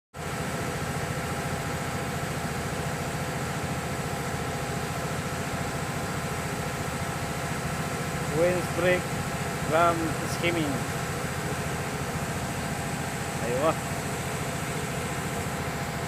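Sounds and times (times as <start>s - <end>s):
brake lathe humming: 1.3s - 16.0s.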